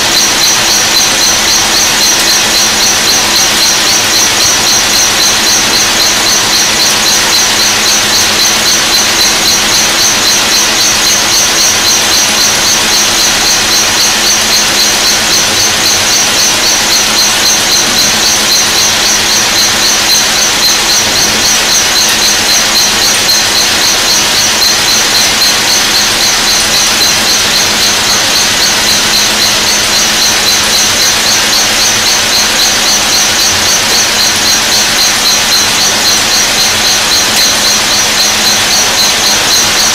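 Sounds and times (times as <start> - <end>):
high-pitched metal milling: 0.0 - 39.9.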